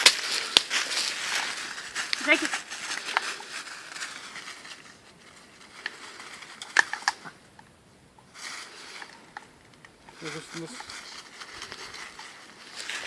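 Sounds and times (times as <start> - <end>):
rustling with crackles and snaps: 0.0 - 13.0.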